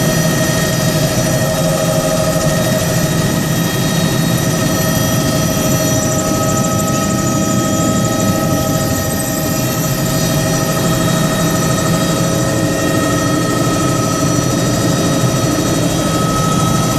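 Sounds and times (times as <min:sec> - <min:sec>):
helicopter engine and rotor drone: 0:00.0 - 0:16.9
whining tones: 0:00.1 - 0:16.9.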